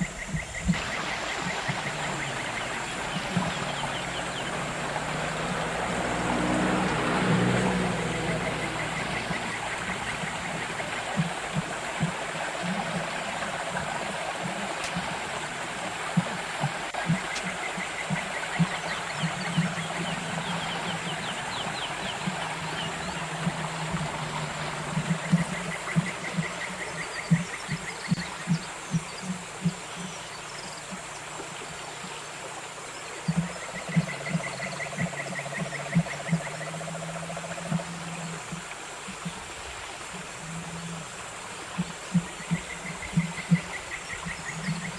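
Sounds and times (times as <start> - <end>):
river water running: 0.0 - 44.9.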